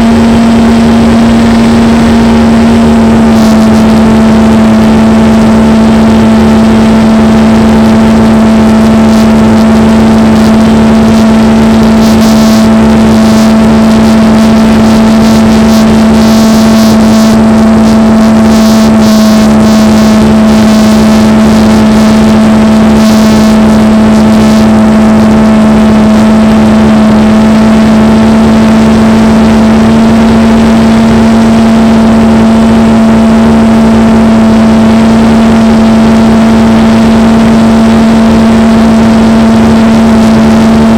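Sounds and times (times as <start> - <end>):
model plane motor droning: 0.0 - 40.9.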